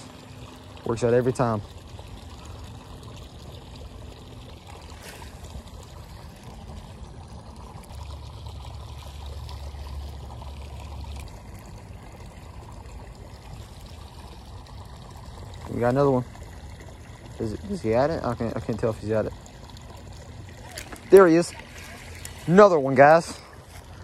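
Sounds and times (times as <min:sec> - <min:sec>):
water pouring into pond: 0:00.0 - 0:24.0.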